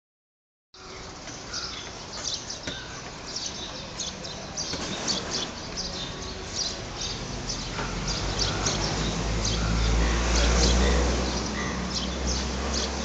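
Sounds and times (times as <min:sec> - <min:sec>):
low street rumble: 0:00.8 - 0:13.0
small birds chirping: 0:00.8 - 0:13.0.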